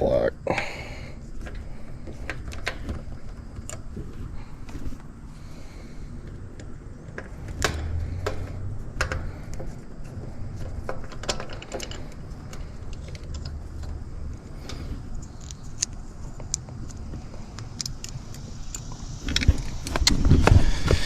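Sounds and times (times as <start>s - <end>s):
hands clicking and rattling parts: 0.0s - 5.1s, 6.1s - 21.0s
steady low rumble: 0.0s - 21.0s.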